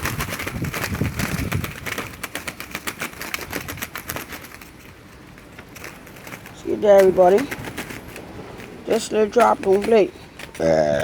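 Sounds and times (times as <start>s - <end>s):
doves flapping wings: 0.0s - 11.0s.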